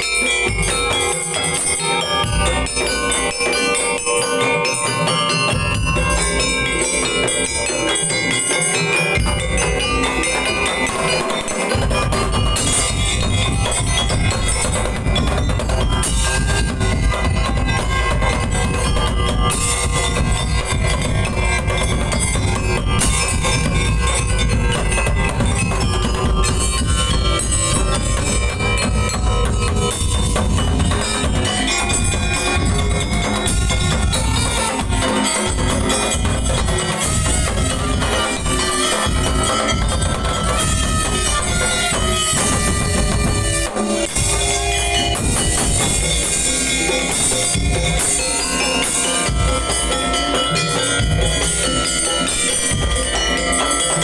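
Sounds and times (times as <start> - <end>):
fast dense drumming: 0.0 - 54.0
metallic bell-like strikes: 0.0 - 54.0
steady held tones: 0.0 - 54.0
sustained melodic instruments: 0.0 - 54.0.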